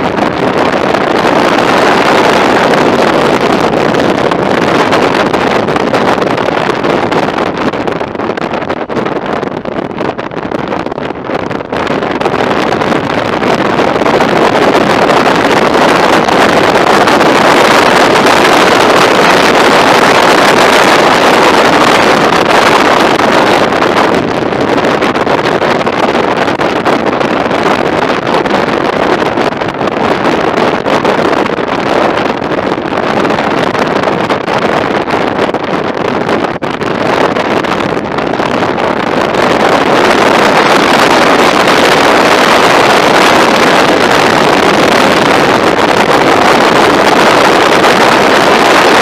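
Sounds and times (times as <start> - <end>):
road noise: 0.0 - 49.0
wind rushing over microphone: 0.0 - 49.0.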